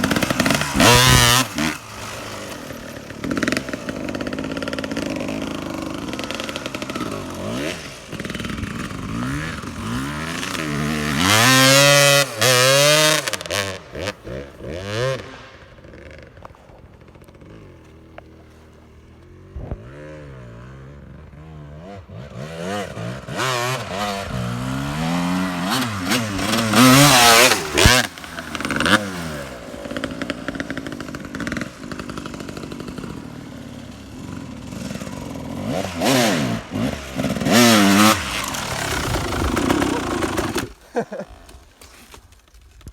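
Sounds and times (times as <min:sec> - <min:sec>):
motocross bike engine revving: 0:00.0 - 0:41.7.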